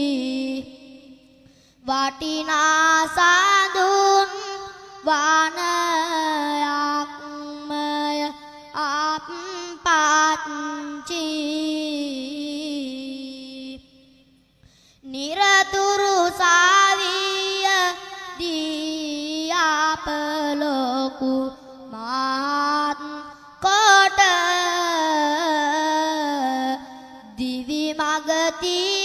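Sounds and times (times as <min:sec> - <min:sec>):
boy singing solo: 0:00.0 - 0:01.2, 0:01.8 - 0:14.0, 0:15.0 - 0:29.0.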